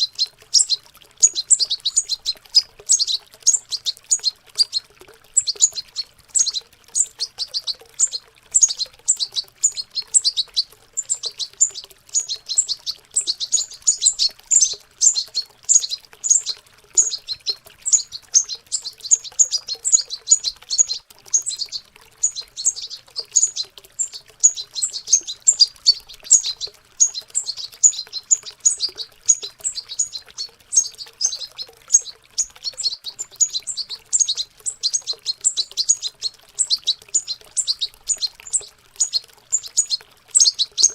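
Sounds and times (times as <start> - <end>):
goldfinches twittering: 0.0 - 40.9.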